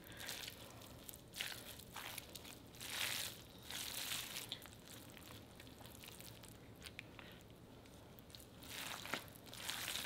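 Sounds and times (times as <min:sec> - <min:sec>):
gloved hands squishing food: 0:00.0 - 0:10.0
soft crinkling and squelching: 0:00.0 - 0:10.0.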